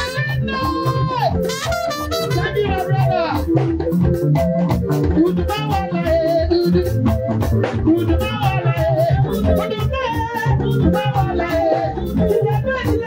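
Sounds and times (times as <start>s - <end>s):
band accompaniment: 0.0s - 13.0s
bass line: 0.0s - 13.0s
quick percussion beat: 0.0s - 13.0s.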